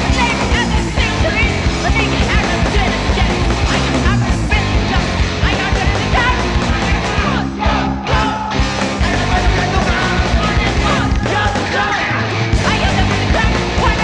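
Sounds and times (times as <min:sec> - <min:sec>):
punk rock band playing: 0:00.0 - 0:14.0
shouted vocals: 0:00.0 - 0:14.0.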